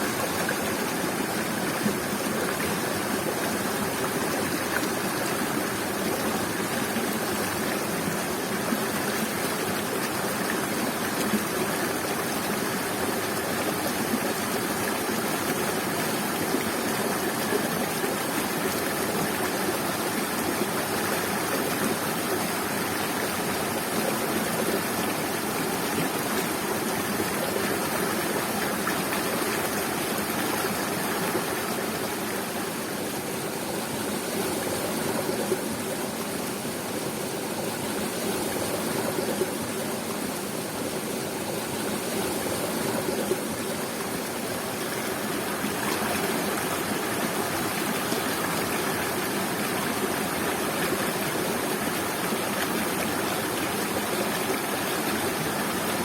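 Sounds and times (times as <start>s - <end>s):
waterfall and river water rushing: 0.0s - 56.0s.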